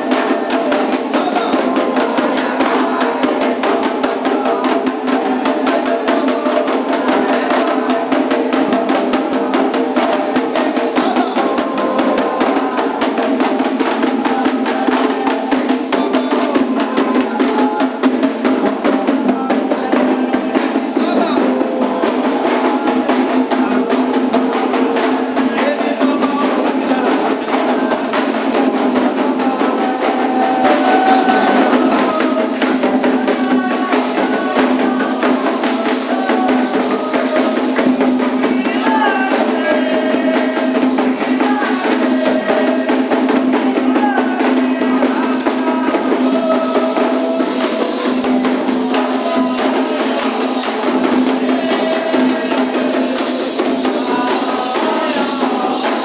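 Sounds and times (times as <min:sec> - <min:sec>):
hand drums and percussion: 0:00.0 - 0:56.0
people singing: 0:00.0 - 0:56.0.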